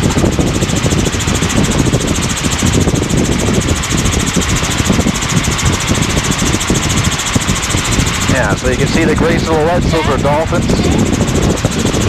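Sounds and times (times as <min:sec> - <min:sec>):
helicopter engine and rotor noise: 0:00.0 - 0:12.0.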